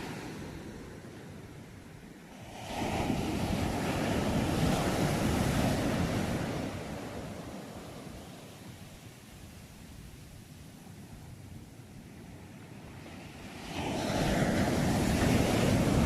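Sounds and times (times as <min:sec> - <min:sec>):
sea waves breaking: 0:00.0 - 0:09.4, 0:12.1 - 0:16.0.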